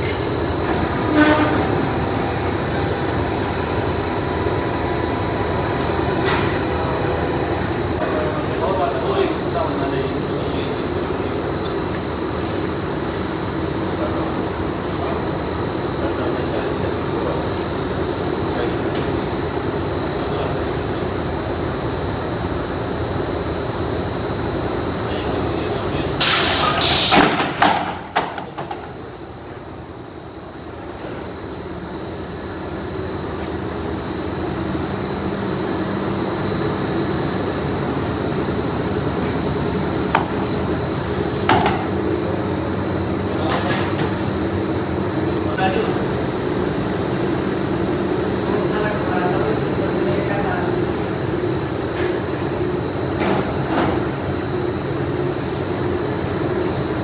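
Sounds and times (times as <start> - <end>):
factory machinery humming and whining: 0.0 - 57.0.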